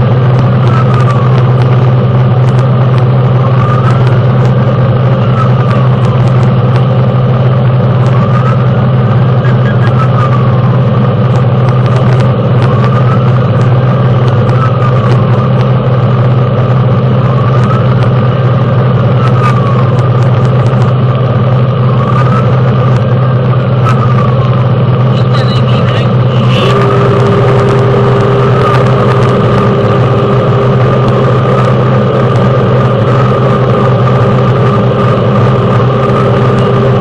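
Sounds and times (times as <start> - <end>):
fire engine engine drone: 0.0 - 37.0
siren wailing: 0.0 - 37.0.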